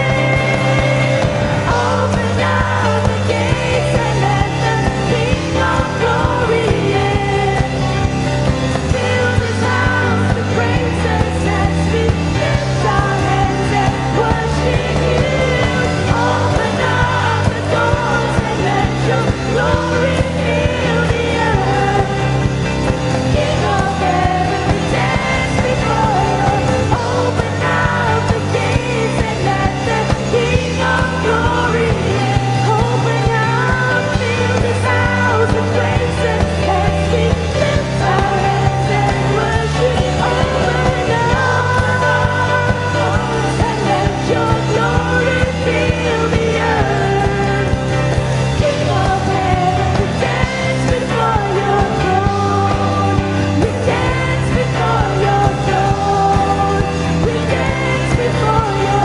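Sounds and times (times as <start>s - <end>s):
voices singing: 0.0s - 59.0s
worship band playing: 0.0s - 59.0s.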